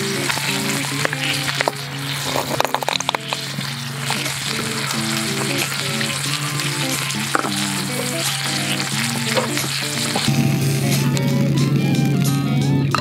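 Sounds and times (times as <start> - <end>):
butter and sauce sizzling: 0.0 - 13.0
soft background music: 0.0 - 13.0.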